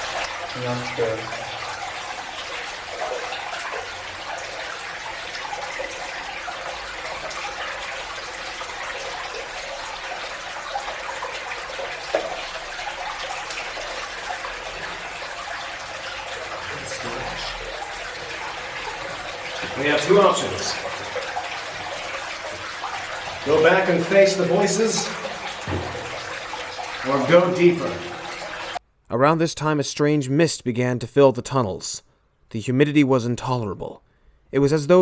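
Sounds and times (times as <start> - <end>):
running water trickle: 0.0 - 28.8.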